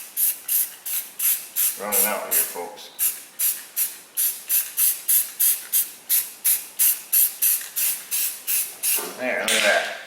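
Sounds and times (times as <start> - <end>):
spray can hissing spurts: 0.1 - 9.0.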